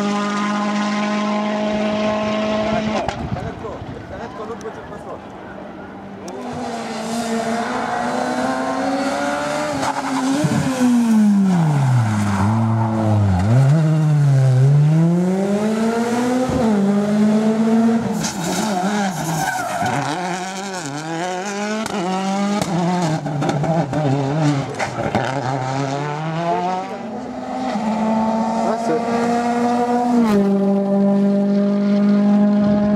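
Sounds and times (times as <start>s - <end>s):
rally car engine revving: 0.0s - 3.3s, 6.2s - 32.9s.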